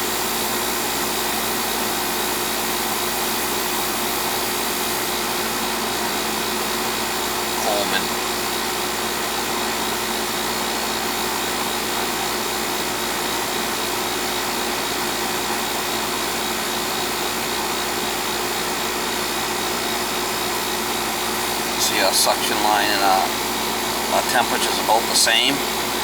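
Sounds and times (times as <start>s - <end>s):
air conditioner fan rushing: 0.0s - 26.0s.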